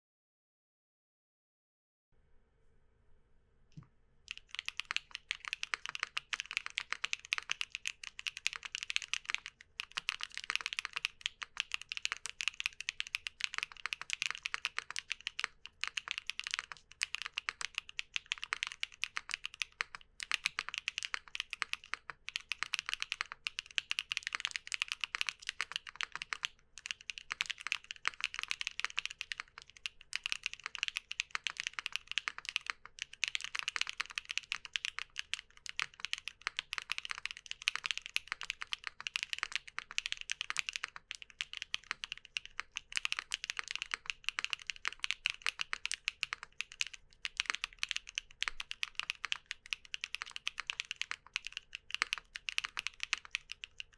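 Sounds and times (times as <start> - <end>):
fast mechanical keyboard typing: 4.3 - 53.9.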